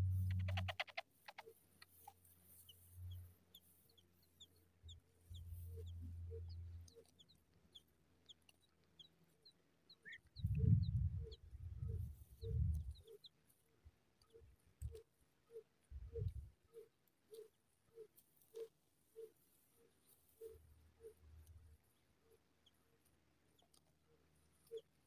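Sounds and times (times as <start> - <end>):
songbird chicks chirping: 0.0 - 25.0.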